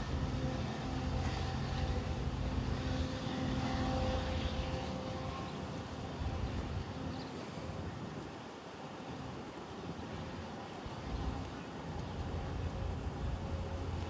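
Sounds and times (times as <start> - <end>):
large engine droning: 0.0 - 14.0.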